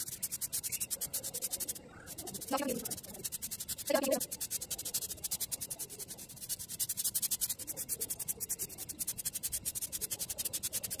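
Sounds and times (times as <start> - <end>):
pen scratching on paper: 0.0 - 11.0.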